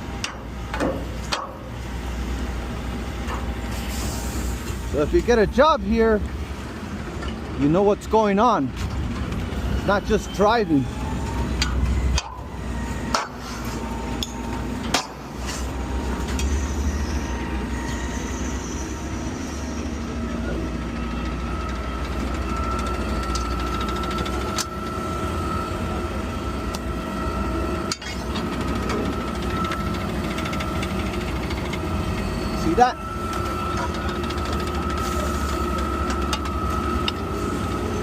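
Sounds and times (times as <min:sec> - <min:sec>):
garbage truck rumbling: 0:00.0 - 0:38.0.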